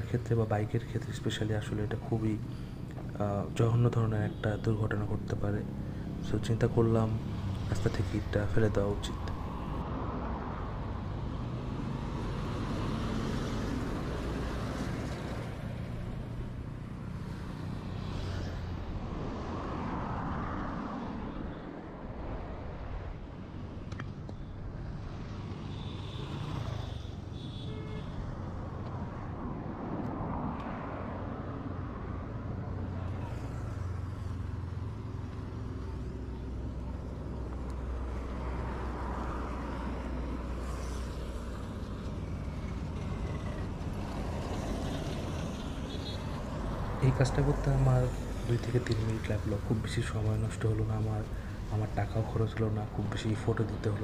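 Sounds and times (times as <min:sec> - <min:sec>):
low traffic rumble: 0:00.0 - 0:54.0
vehicles passing: 0:00.0 - 0:54.0.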